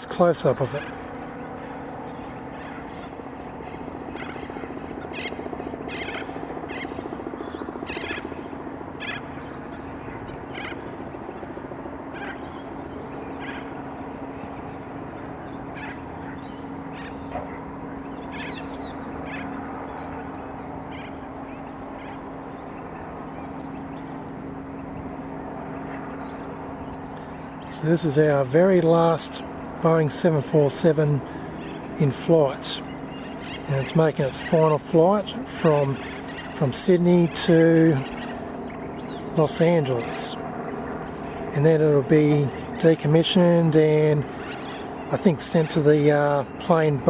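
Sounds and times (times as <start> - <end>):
birds chirping: 0.0 - 47.0
steady low drone: 0.0 - 47.0.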